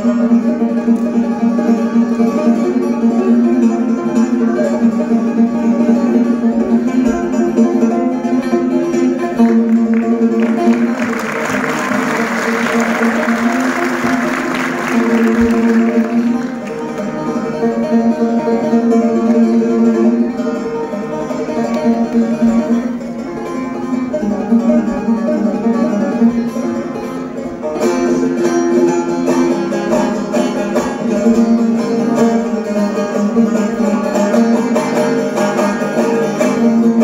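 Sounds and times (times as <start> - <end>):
plucked saz melody: 0.0 - 37.0.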